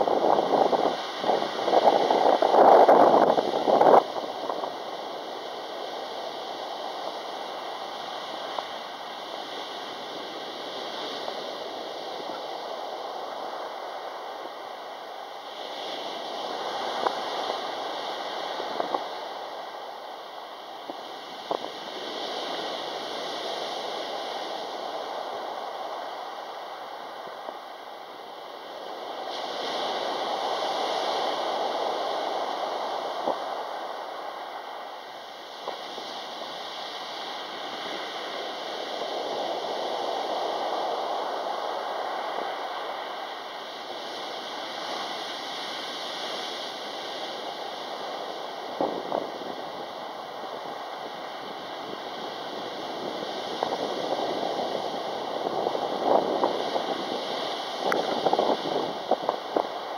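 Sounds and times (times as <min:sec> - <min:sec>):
waves washing up pebble beach: 0:00.0 - 0:59.9.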